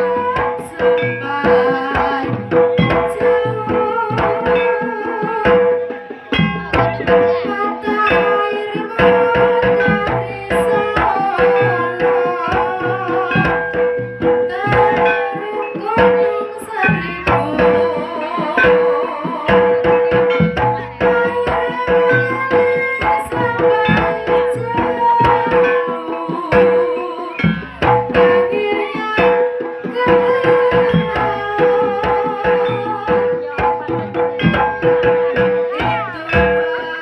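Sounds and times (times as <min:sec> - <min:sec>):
hand drums beating: 0:00.0 - 0:37.0
ringing metallophone tones: 0:00.0 - 0:37.0
wavering melody line: 0:00.0 - 0:37.0.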